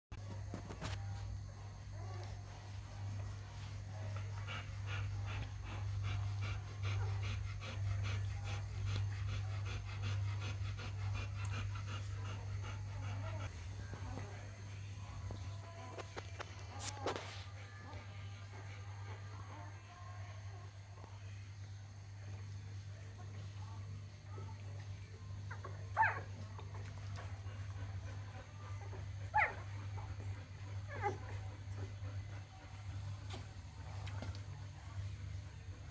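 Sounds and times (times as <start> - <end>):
dog panting: 1.0 - 21.5, 22.2 - 35.9.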